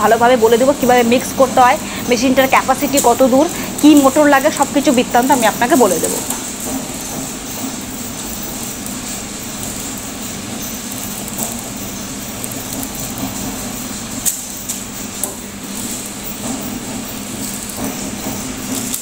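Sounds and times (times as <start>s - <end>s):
packaging machinery running: 0.0s - 19.0s.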